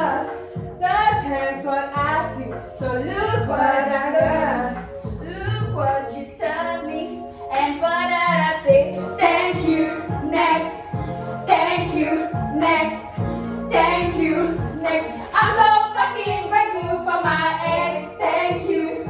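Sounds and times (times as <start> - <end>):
pop song with woman singing: 0.0 - 19.0.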